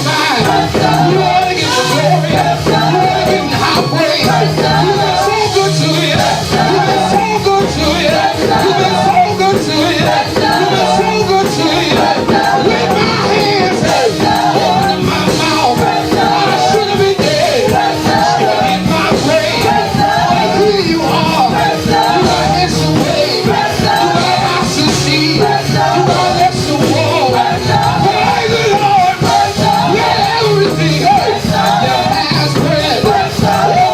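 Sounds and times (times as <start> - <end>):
bass notes: 0.0 - 33.9
live gospel band: 0.0 - 33.9
voices singing: 0.0 - 33.9.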